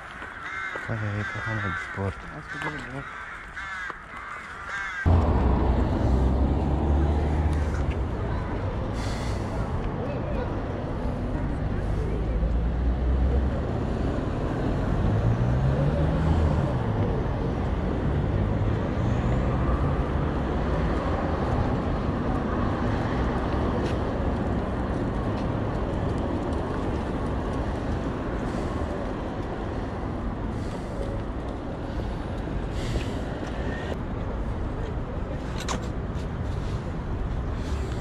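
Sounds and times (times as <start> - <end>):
traffic hum: 0.0 - 38.0.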